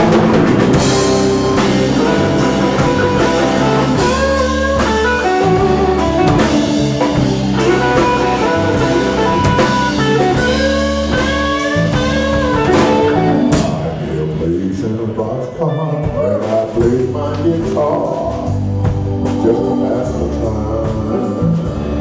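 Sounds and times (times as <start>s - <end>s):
live blues band playing: 0.0s - 22.0s.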